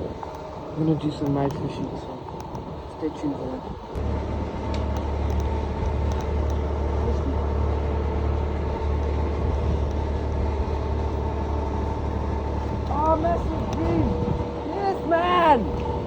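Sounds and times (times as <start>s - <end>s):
engine humming: 0.0s - 16.0s
faint steady whine: 0.0s - 16.0s.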